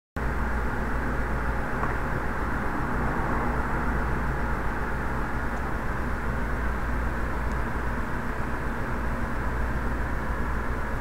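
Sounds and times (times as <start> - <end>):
dull background rush: 0.2 - 11.0
low hum: 0.2 - 11.0.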